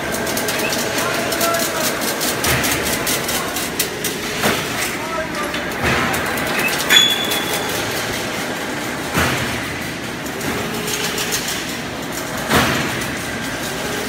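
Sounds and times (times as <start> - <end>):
fence weaving machine clatter: 0.0 - 14.0
loud machine clanks: 0.0 - 14.0.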